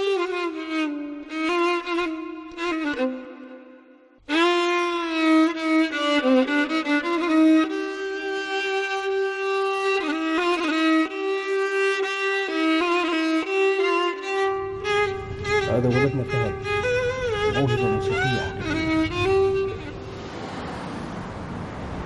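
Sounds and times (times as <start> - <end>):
bowed string instrument melody: 0.0 - 22.0.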